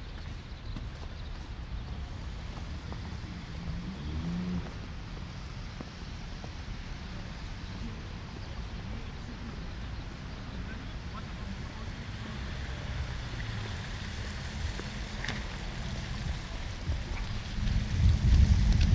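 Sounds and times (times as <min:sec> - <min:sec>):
footsteps in snow: 0:00.0 - 0:11.0, 0:13.5 - 0:18.9
traffic rumble: 0:00.0 - 0:18.9
wind: 0:00.0 - 0:18.9.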